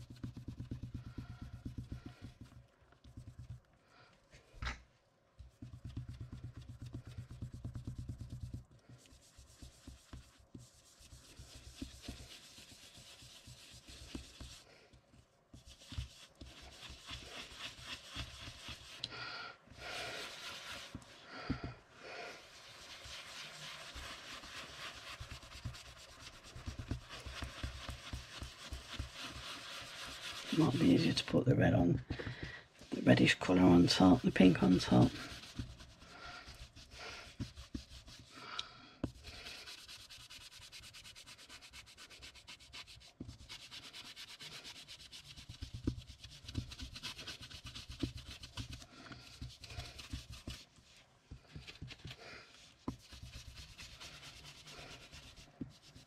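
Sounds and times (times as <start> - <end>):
brush scrubbing on paper: 0.0 - 3.6, 5.4 - 32.0, 32.8 - 56.0.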